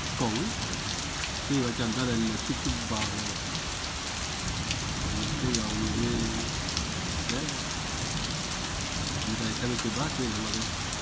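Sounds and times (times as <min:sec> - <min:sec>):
heavy rain: 0:00.0 - 0:11.0
raindrops ticking on hard surfaces: 0:00.0 - 0:11.0.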